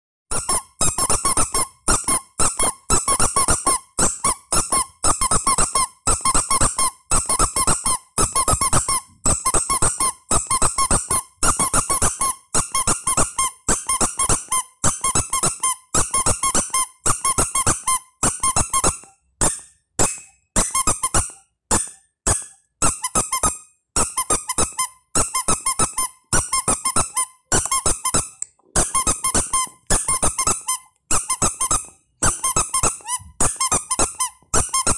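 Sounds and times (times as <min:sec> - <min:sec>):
rubber duck toy squeaking: 0:00.3 - 0:34.9.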